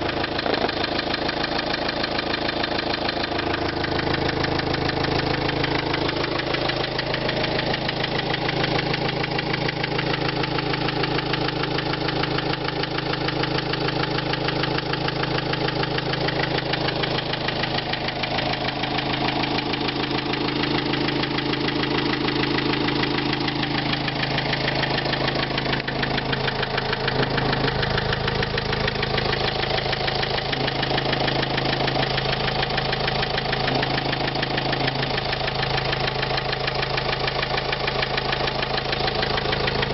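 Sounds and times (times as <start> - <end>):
diesel engine idling with knock: 0.0 - 39.9.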